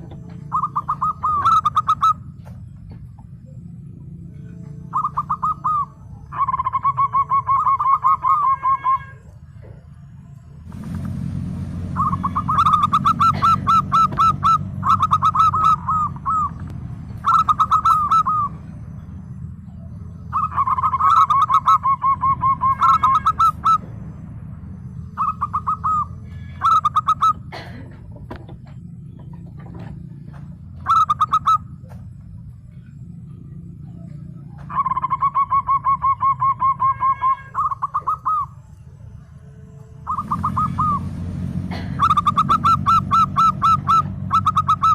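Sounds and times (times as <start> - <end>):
dove cooing: 0.0 - 10.0, 11.8 - 44.9
steady low hum: 0.0 - 44.9.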